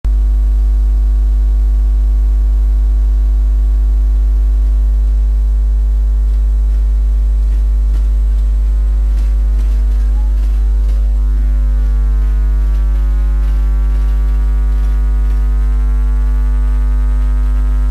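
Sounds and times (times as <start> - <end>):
electrical hum: 0.1 - 17.9.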